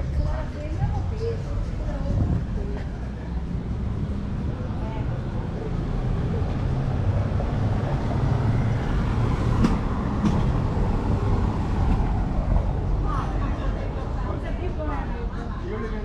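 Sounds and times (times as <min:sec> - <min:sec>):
train wheels rumbling on rail: 0:00.0 - 0:15.3.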